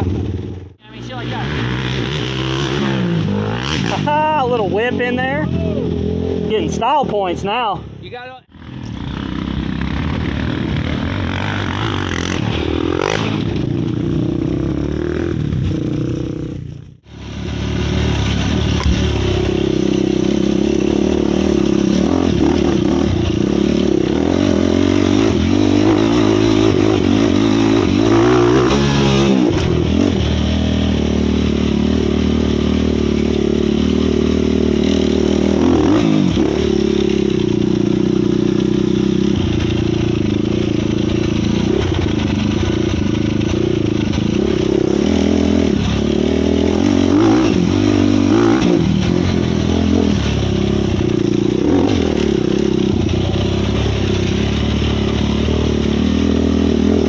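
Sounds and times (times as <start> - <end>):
quad engine revving: 0.0 - 7.7, 8.5 - 57.0.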